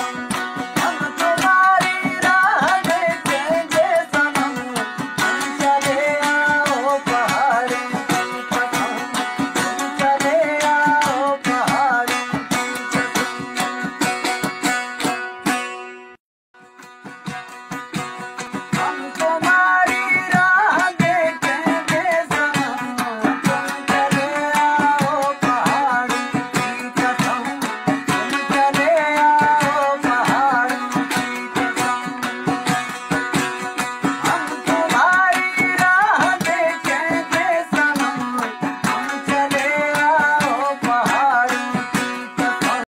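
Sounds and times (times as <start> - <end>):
hand drums beat: 0.0 - 15.7, 16.6 - 42.9
plucked strings: 0.0 - 42.9.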